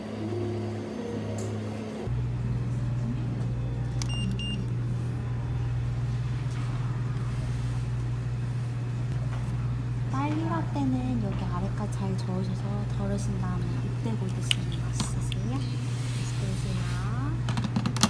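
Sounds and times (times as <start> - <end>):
low hum of cafe room tone: 0.0 - 18.0.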